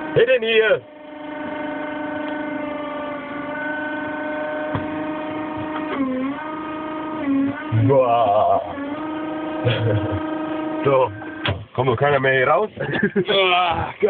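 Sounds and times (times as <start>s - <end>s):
work vehicle motor humming: 0.0s - 14.0s.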